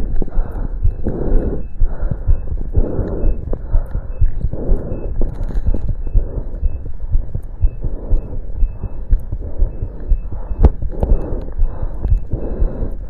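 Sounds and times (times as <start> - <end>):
fast heartbeat thumping: 0.0 - 13.0.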